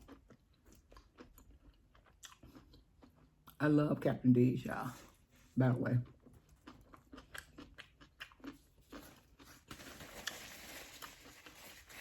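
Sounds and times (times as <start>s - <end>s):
person chewing crunchy food: 0.0s - 3.7s, 4.8s - 12.0s.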